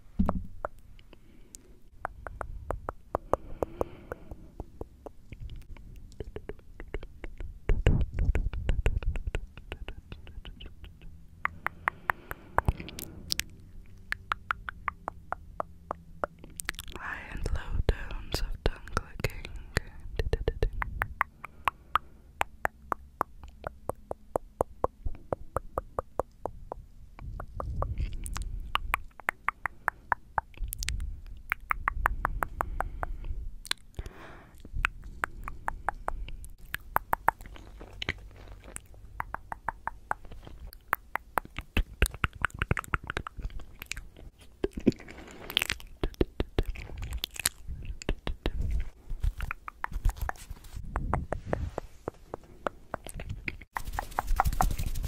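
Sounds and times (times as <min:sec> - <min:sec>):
wet mouth sounds: 0:00.0 - 0:55.0
tongue clicking: 0:00.2 - 0:17.6, 0:18.4 - 0:54.6.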